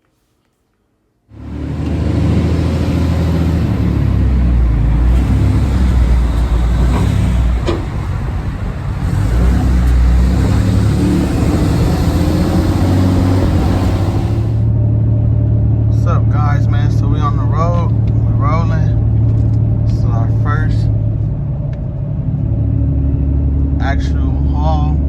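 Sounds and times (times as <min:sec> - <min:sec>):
pickup engine drone: 0:01.3 - 0:25.0
road noise: 0:01.3 - 0:25.0.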